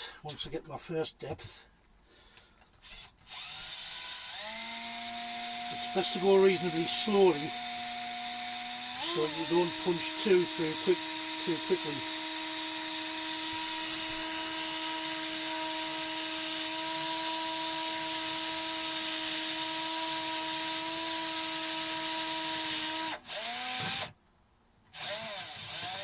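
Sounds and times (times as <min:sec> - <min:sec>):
electric drill boring through wood: 0:02.8 - 0:24.1, 0:25.0 - 0:26.0.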